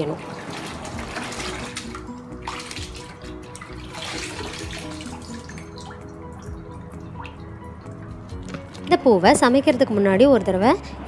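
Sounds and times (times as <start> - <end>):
water sloshing in a bucket: 0.0 - 10.5
soft background music: 0.0 - 11.0.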